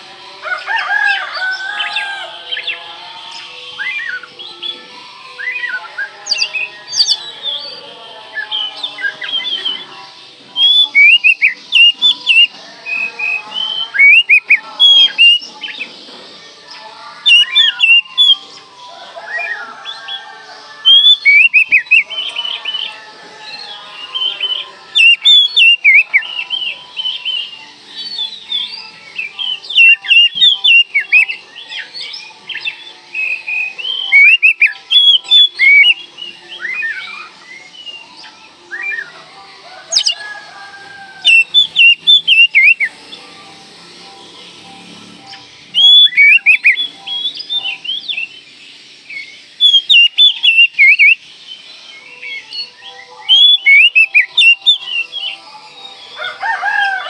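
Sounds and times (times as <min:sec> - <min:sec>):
bird whistling song: 0:01.0 - 0:16.1, 0:16.7 - 0:57.0.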